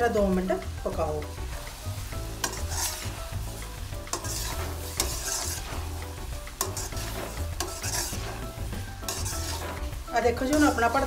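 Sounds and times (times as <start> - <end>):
metal spoon scraping food in pan: 1.4 - 11.0.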